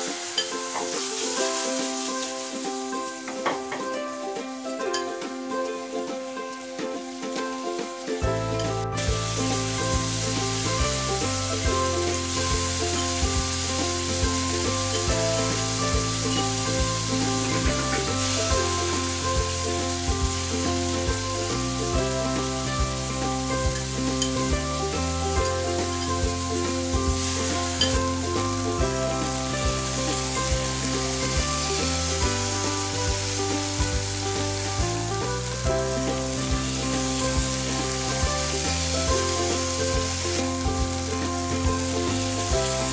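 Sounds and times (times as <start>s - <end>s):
spatula turning food in pan: 0.0s - 3.9s, 6.5s - 42.9s
prawns sizzling in hot oil: 0.0s - 42.9s
background music with bass line: 8.2s - 42.9s.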